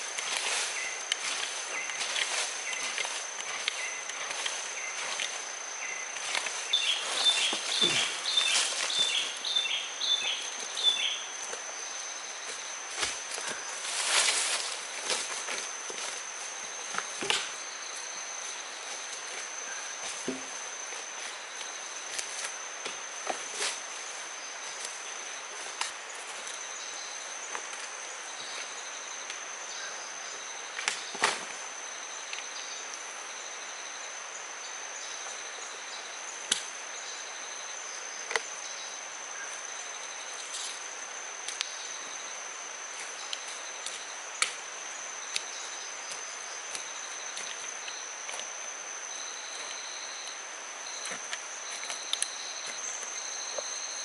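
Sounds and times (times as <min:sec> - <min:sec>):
high-pitched insect drone: 0:00.0 - 0:54.0
insect chirping calls: 0:00.0 - 0:54.0.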